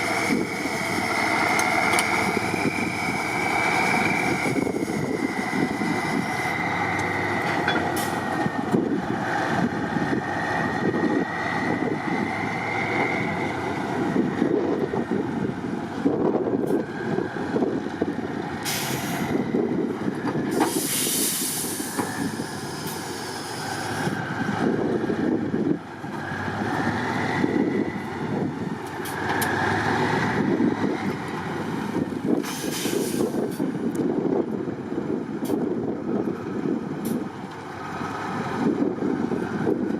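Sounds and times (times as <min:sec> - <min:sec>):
diesel truck engine labouring: 0:00.0 - 0:39.9.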